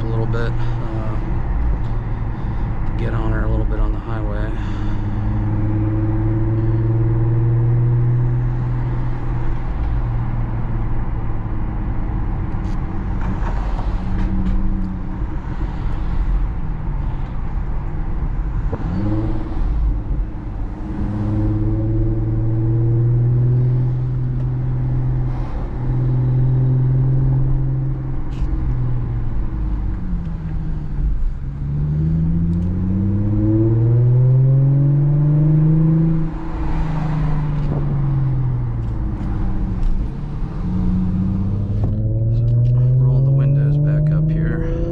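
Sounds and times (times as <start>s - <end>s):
car exhaust drone from cabin: 0.0s - 44.9s.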